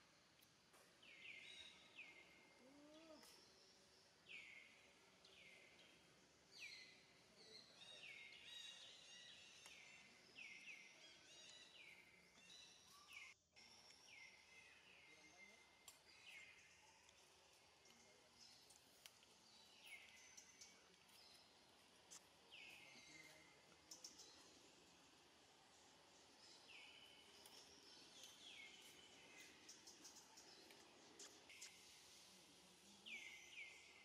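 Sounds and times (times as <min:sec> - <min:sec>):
faint outdoor background: 0:00.0 - 0:34.0.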